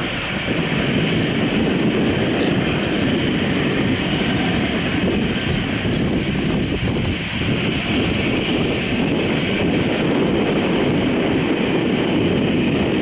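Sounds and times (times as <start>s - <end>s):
jet engines running at low thrust: 0.0s - 13.0s.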